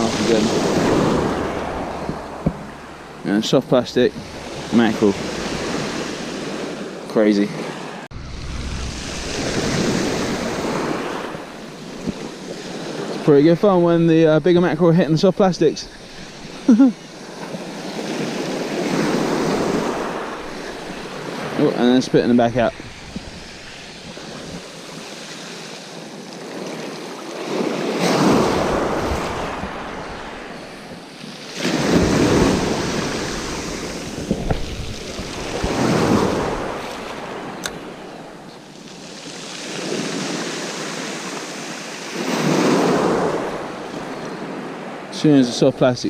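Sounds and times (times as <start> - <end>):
steady sea wash: 0.0 - 46.0
waves breaking on beach: 0.0 - 46.0.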